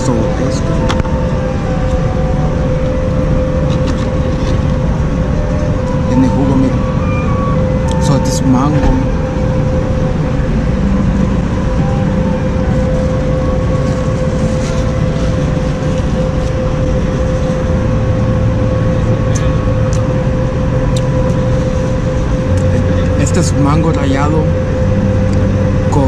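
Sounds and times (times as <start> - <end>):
large vehicle engine rumbling: 0.0 - 26.0
steady hum: 0.0 - 26.0
street traffic: 0.0 - 26.0.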